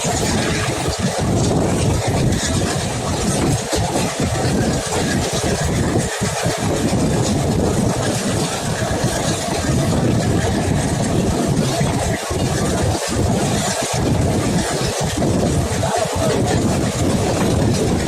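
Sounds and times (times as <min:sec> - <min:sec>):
diesel locomotive rumble: 0:00.0 - 0:18.0.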